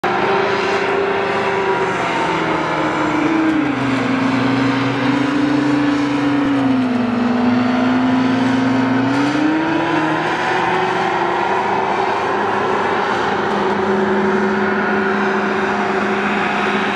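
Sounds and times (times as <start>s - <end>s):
hovercraft engine and propeller: 0.0s - 9.0s, 12.1s - 16.9s.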